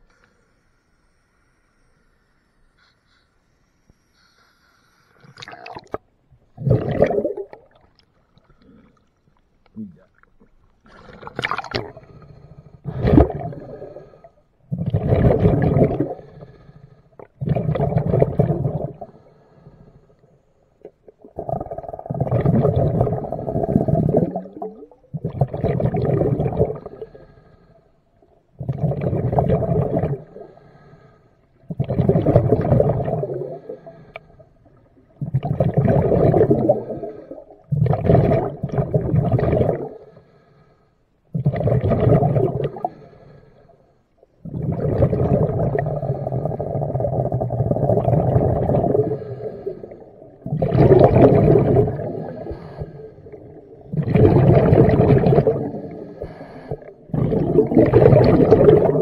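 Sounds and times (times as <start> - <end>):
underwater air bubbling: 5.2 - 40.6, 41.3 - 59.0.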